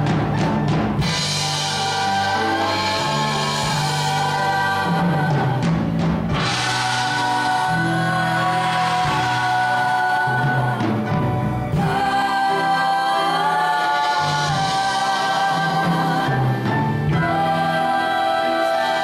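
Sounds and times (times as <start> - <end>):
sustained instrumental chords: 0.0 - 19.0.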